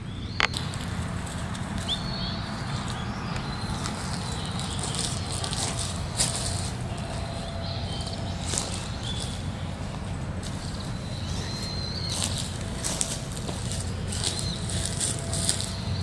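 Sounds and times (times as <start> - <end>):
footsteps on dry leaves: 0.4 - 16.0
low rumble: 0.4 - 16.0
faint high chirps: 1.6 - 16.0.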